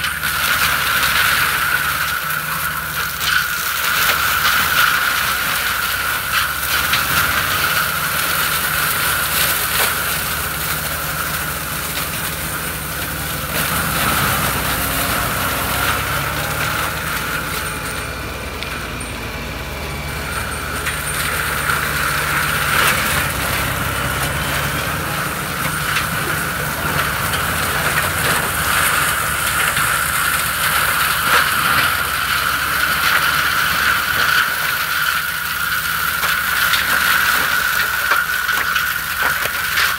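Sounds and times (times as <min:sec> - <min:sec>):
mulcher high whine: 0:00.0 - 0:34.9
diesel tractor engine under load: 0:00.0 - 0:39.9.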